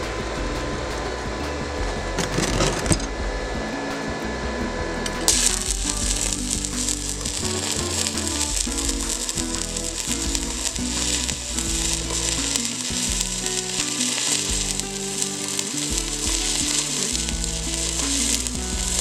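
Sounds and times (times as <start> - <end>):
background music: 0.0 - 19.0
welding arc crackling: 0.0 - 19.0.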